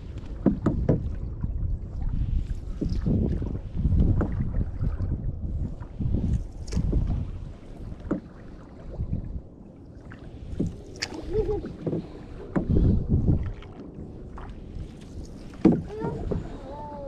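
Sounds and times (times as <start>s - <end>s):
paddle strokes in water: 0.0s - 17.0s
wind buffeting microphone: 0.0s - 17.0s.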